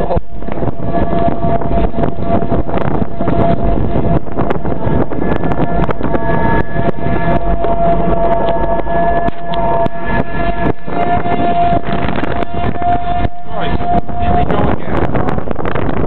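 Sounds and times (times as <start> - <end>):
mechanical whine: 0.0 - 16.0.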